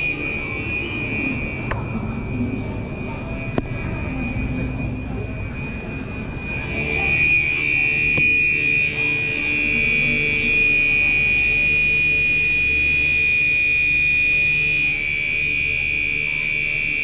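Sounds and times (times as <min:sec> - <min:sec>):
fire alarm horn steady tone: 0:00.0 - 0:17.0
low hum: 0:00.0 - 0:17.0.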